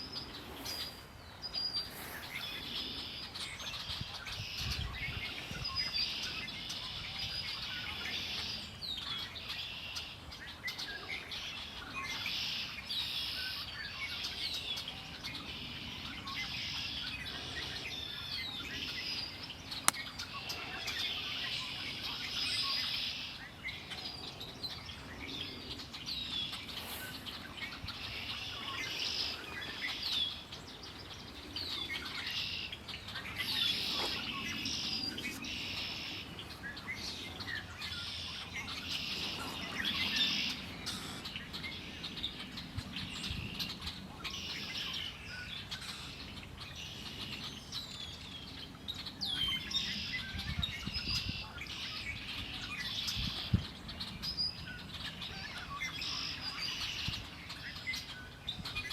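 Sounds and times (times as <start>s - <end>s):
chorus of songbirds singing: 0.0s - 58.9s.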